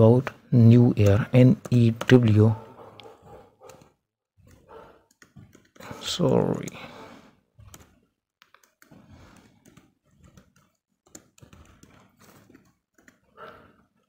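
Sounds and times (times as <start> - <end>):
faint typing on keyboard: 0.0 - 14.0.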